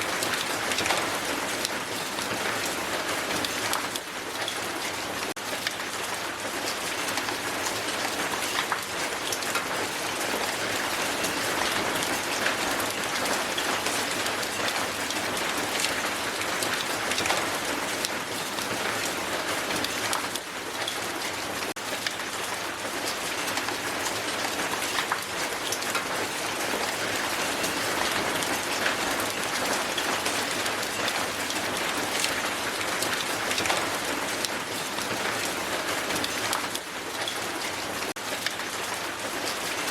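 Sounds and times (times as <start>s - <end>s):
hail striking hard surface: 0.0s - 39.9s.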